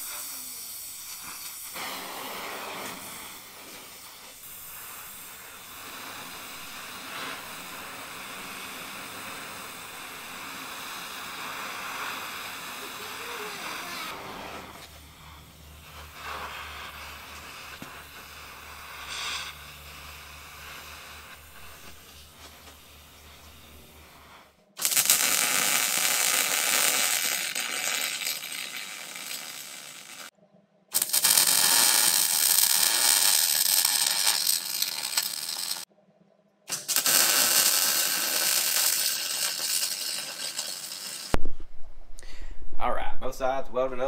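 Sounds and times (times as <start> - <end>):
arc welding crackle: 0.0 - 30.3, 30.9 - 35.9, 36.7 - 41.4
torch hiss: 0.0 - 30.3, 30.9 - 35.9, 36.7 - 41.4.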